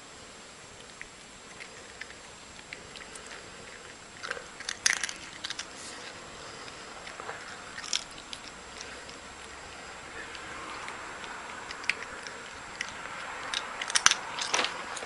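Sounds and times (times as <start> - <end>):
cat crunching food: 0.4 - 15.0.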